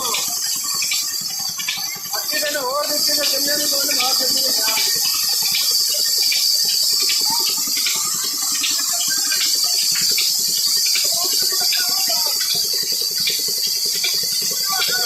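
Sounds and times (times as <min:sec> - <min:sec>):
continuous high hiss: 0:00.0 - 0:15.0
diesel engine running: 0:00.0 - 0:15.0.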